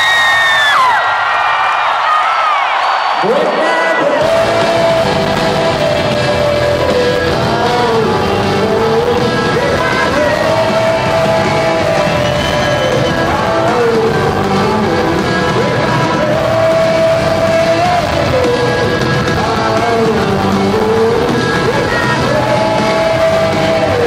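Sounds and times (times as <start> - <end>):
rock band playing live: 3.2 - 24.0.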